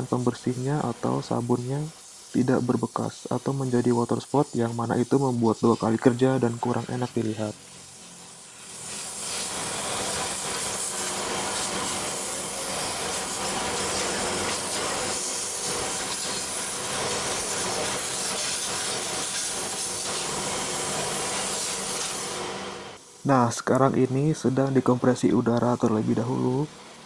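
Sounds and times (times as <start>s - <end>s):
compressed air blow gun hissing: 0.0s - 27.0s.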